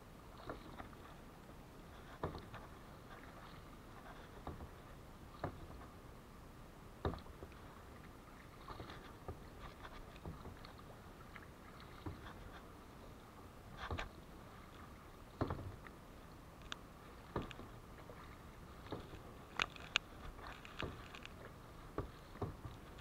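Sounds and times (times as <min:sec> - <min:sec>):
faint steady background noise: 0:00.0 - 0:23.0
kayak paddle knocks and splashes: 0:00.3 - 0:01.2, 0:02.0 - 0:06.0, 0:07.0 - 0:12.7, 0:13.6 - 0:16.0, 0:16.6 - 0:23.0.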